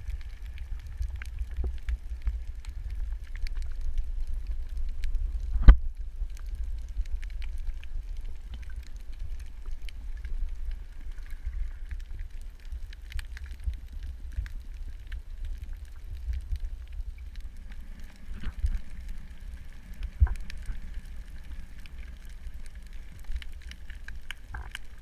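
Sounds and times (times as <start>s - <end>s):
faint crackling clicks: 0.0s - 25.0s
underwater low rumble: 0.0s - 25.0s.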